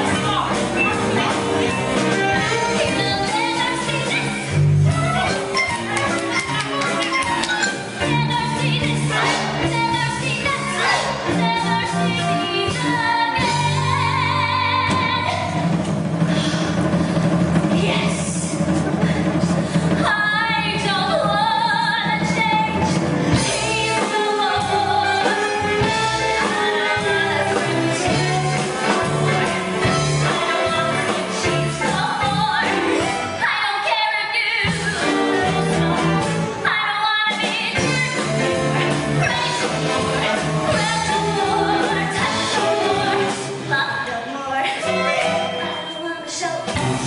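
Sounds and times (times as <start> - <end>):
women singing: 0.0 - 7.2, 7.9 - 15.6, 20.0 - 47.0
live band playing: 0.0 - 44.0, 44.6 - 47.0.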